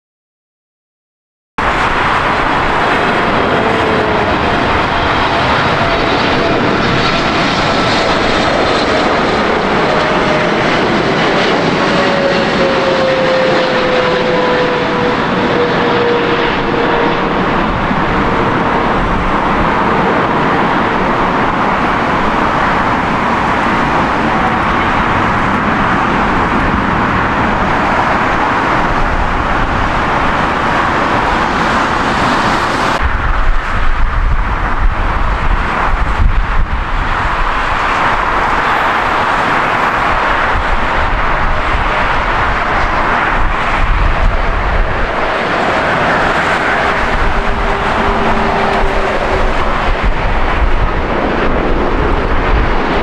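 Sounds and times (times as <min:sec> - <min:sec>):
jet airliner passing low: 0:01.6 - 0:53.0
jet engine whine: 0:01.6 - 0:53.0
wind on microphone: 0:01.6 - 0:53.0.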